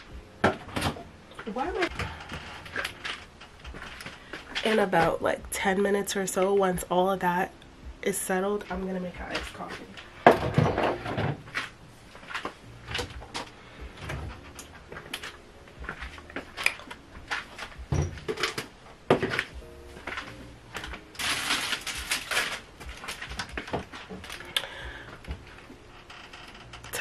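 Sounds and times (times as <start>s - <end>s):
soft background music: 0.0s - 27.0s.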